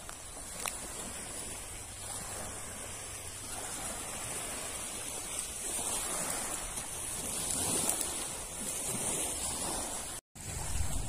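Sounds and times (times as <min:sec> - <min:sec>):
waves lapping against shore: 0:00.0 - 0:11.0
wind noise: 0:00.0 - 0:11.0.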